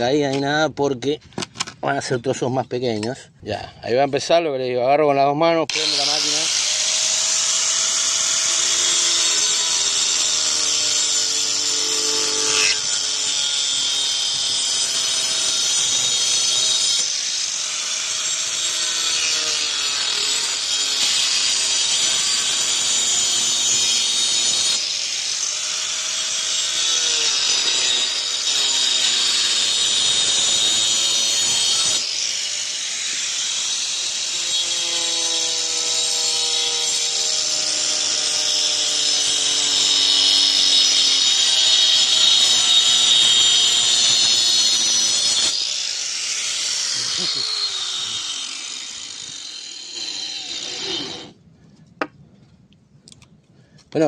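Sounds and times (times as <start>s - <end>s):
angle grinder cutting wood: 5.6s - 51.4s.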